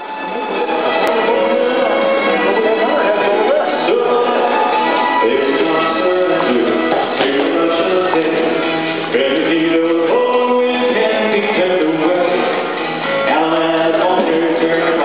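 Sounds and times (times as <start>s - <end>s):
country-style music: 0.0s - 15.0s
man singing calls: 0.3s - 15.0s.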